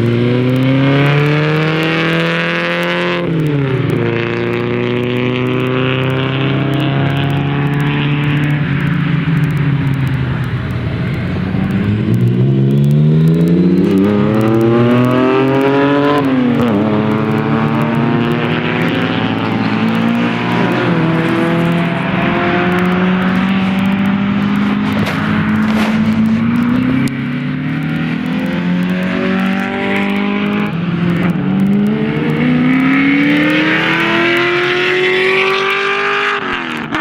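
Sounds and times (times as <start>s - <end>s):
racing car engines running hard: 0.0s - 37.0s.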